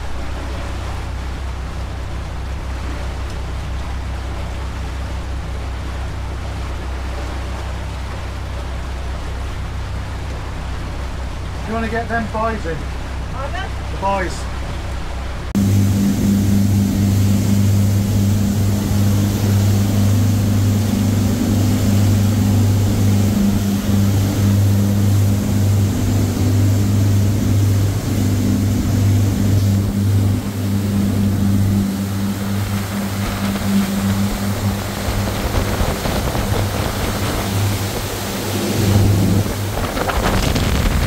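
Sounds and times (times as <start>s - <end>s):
boat engine droning: 0.0s - 41.0s
wind and water rushing: 0.0s - 41.0s.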